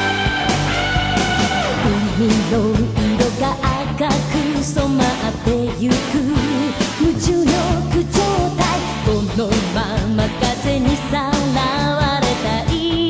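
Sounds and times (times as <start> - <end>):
pop-rock song with drums and bass: 0.0 - 13.0.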